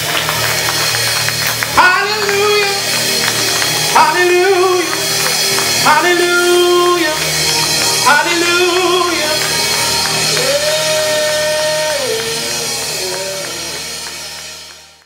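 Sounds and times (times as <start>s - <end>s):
worship music chords: 0.0s - 15.0s
person singing a long note: 1.8s - 14.1s.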